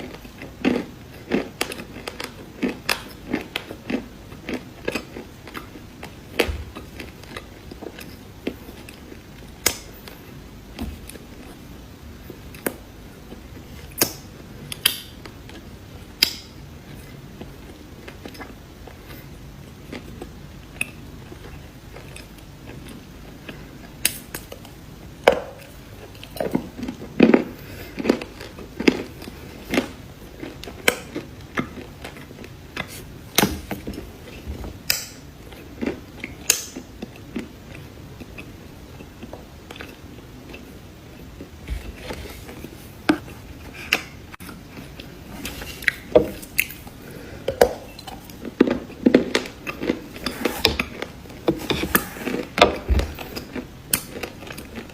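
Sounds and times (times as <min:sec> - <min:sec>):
crunchy chewing of cookies: 0:00.0 - 0:54.9.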